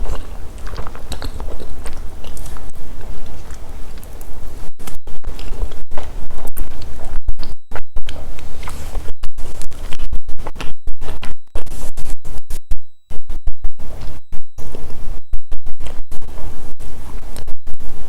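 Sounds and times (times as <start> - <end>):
microphone crackling and scratching: 0.0 - 18.0.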